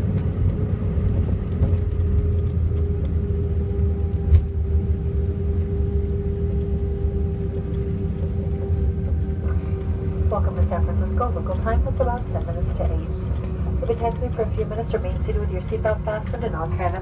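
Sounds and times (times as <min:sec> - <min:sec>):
aircraft wheels and engines rumbling: 0:00.0 - 0:17.0
steady whine: 0:00.1 - 0:17.0.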